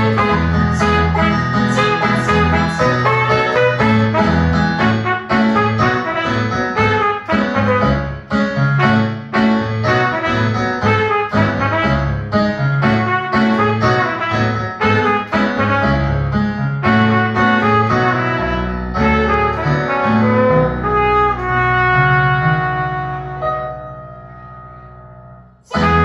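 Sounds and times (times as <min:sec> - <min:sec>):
cornet playing a melody: 0:00.0 - 0:16.2, 0:16.8 - 0:23.8, 0:25.7 - 0:26.0
backing accompaniment: 0:00.0 - 0:24.5, 0:25.7 - 0:26.0.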